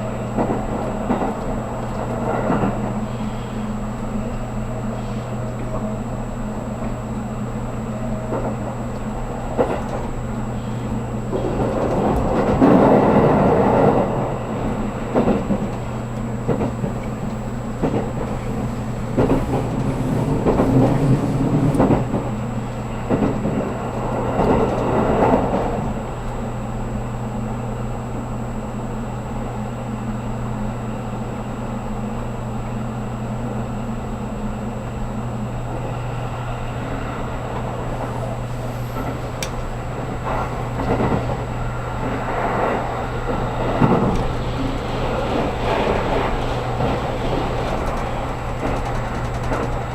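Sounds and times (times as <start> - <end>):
train interior hum: 0.0 - 49.9
wheel-on-rail rumble: 0.0 - 49.9.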